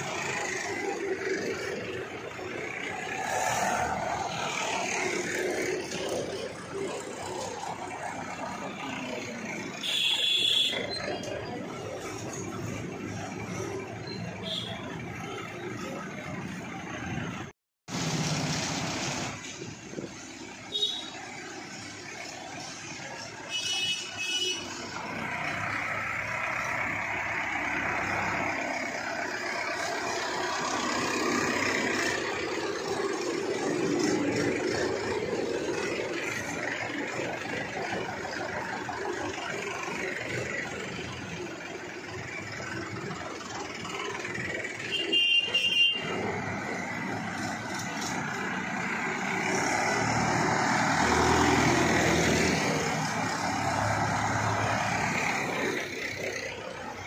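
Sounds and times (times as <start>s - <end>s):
tractor diesel engines passing: 0.0s - 57.0s.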